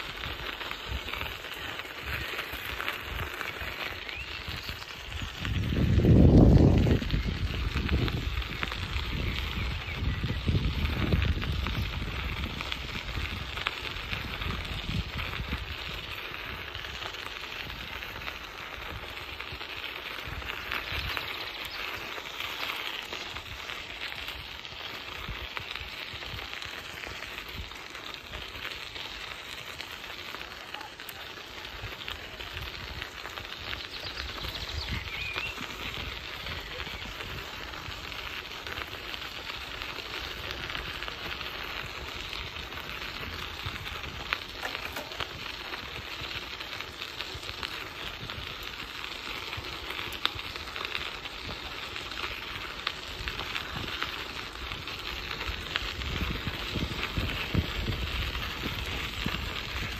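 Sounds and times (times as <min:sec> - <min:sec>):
bicycle tyres hissing on pavement: 0:00.0 - 0:59.9
wind rumbling on microphone: 0:00.0 - 0:59.9.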